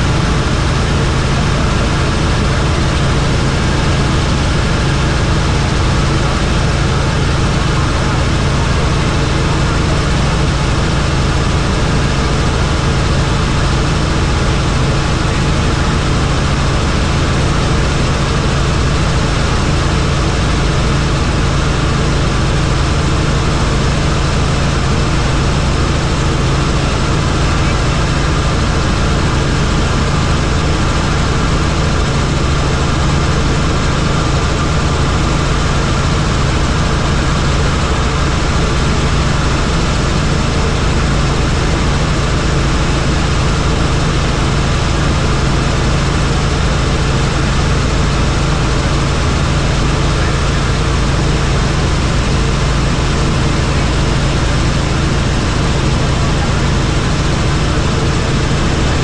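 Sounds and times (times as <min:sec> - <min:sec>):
helicopter engine and rotor: 0:00.0 - 0:59.0.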